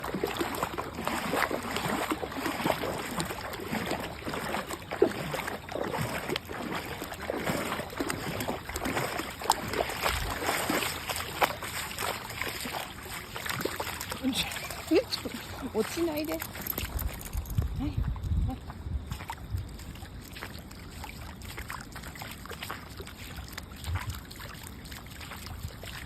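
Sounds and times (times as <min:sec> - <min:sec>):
floodwater flowing and splashing: 0:00.0 - 0:26.0.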